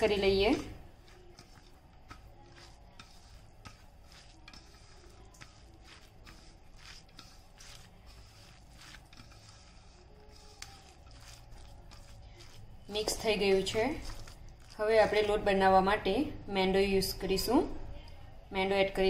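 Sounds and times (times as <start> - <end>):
hand squishing food mixture: 0.0 - 16.4
mixture scraping steel bowl: 0.0 - 16.4.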